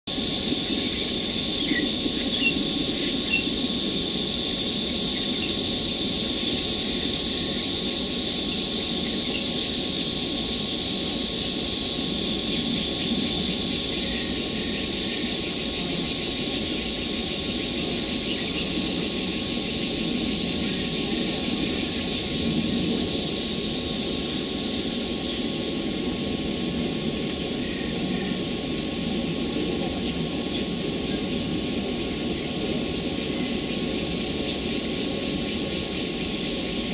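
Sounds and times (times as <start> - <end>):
insects chorus: 0.1 - 36.9.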